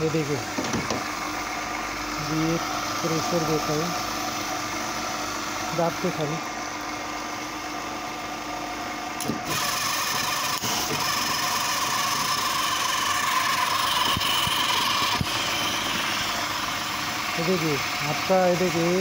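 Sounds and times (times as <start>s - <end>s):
electric motor driving pump: 0.0s - 19.0s.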